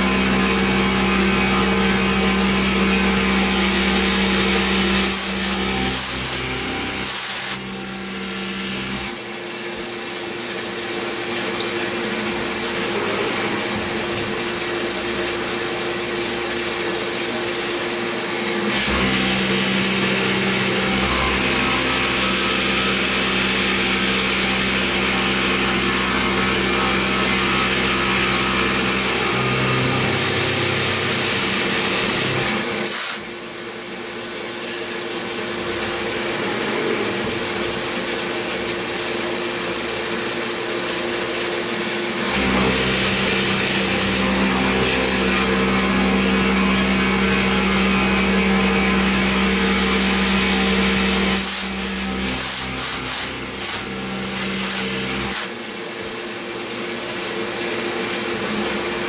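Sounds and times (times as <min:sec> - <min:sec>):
milling machine cutting metal: 0:00.0 - 0:59.0.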